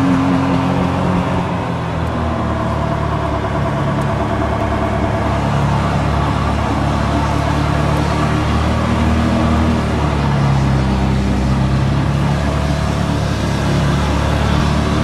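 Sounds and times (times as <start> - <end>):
pickup engine running hard: 0.0 - 15.0.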